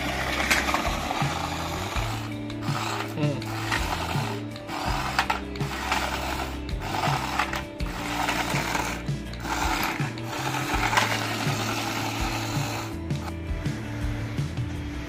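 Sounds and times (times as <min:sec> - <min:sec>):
toy car motor and gears whirring: 0:00.0 - 0:14.2.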